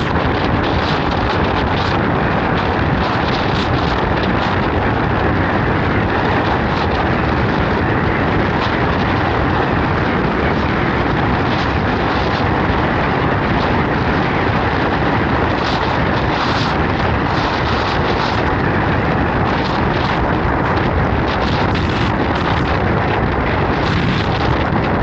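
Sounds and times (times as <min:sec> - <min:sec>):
strong wind buffeting microphone: 0:00.0 - 0:25.0
vehicle road noise: 0:00.0 - 0:25.0.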